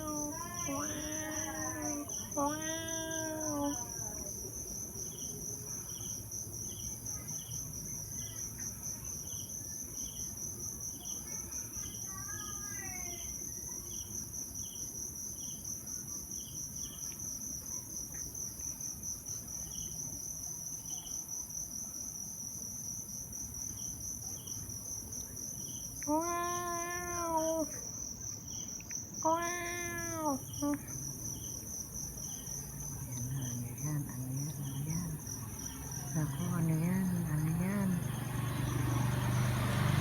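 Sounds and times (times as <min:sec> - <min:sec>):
insects trilling: 0:00.0 - 0:40.0.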